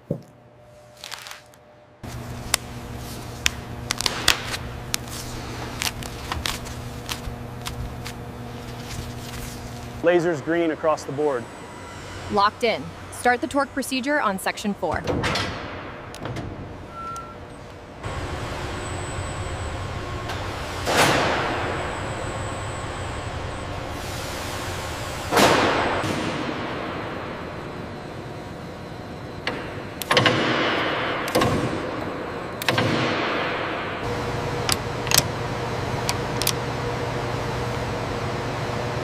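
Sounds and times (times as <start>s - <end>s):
steady workshop hum: 0.0s - 39.0s
industrial rumble and hiss: 0.4s - 39.0s.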